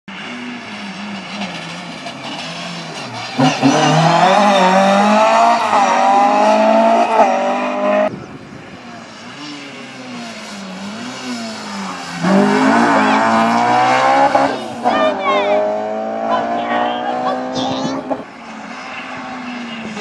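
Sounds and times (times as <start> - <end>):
rally car engine revving: 0.1 - 8.2, 8.8 - 20.0
distant car engine: 0.1 - 20.0.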